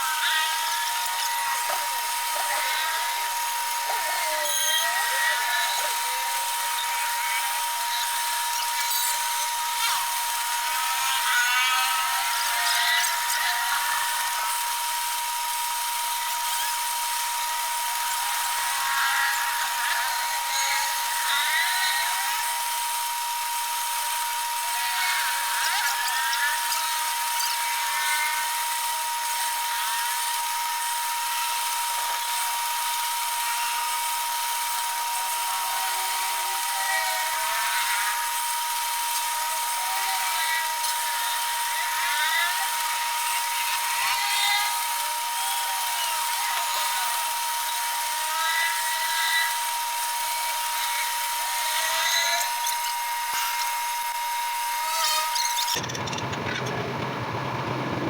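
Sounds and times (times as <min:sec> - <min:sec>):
cutting tool scraping metal: 0:00.0 - 0:14.9, 0:16.1 - 0:23.0, 0:24.0 - 0:56.8
metal lathe whining: 0:00.0 - 0:58.0.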